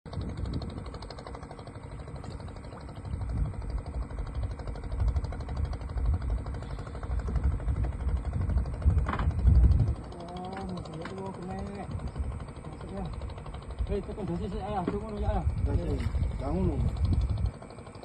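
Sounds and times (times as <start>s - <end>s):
engine rumbling: 0.1s - 18.0s.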